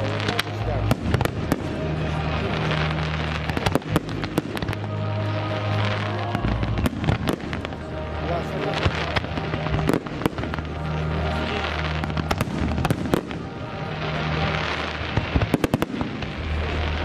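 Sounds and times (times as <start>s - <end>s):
low background music: 0.0s - 17.0s.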